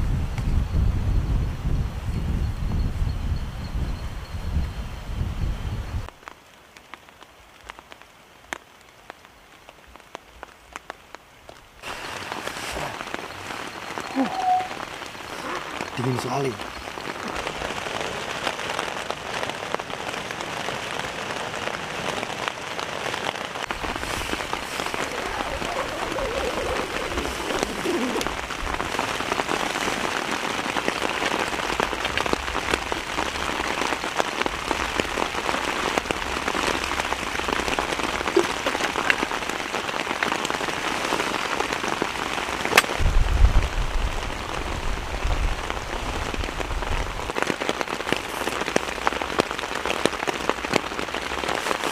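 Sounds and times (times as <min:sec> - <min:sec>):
heavy rain falling: 0:06.0 - 0:51.9.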